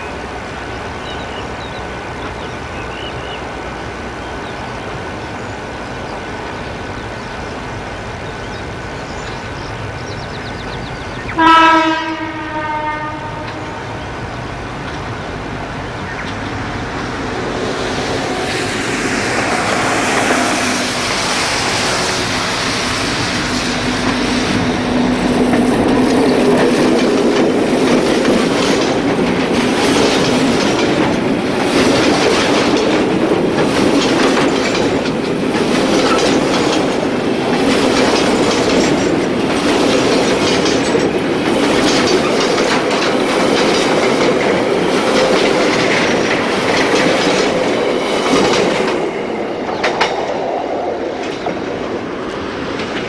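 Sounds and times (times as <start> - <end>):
diesel locomotive engine drone: 0.0 - 53.0
train wheels clickety-clack: 6.4 - 53.0.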